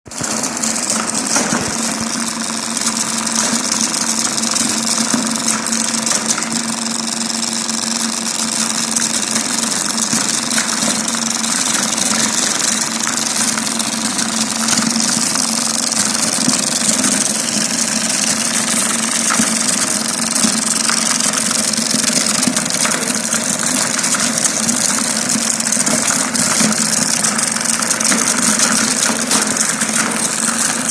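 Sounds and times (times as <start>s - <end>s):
grinding mill motor hum: 0.1s - 30.9s.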